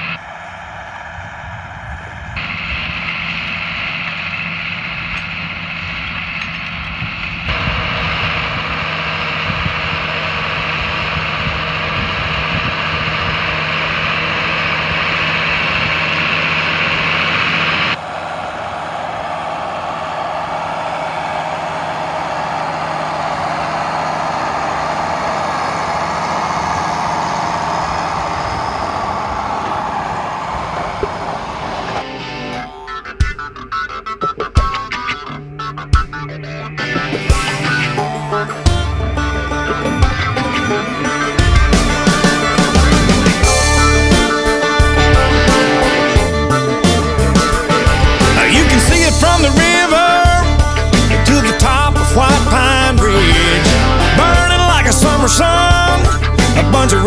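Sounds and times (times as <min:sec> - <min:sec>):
tractor engine running under load: 0:02.4 - 0:18.0, 0:20.7 - 0:32.0, 0:37.3 - 0:57.0.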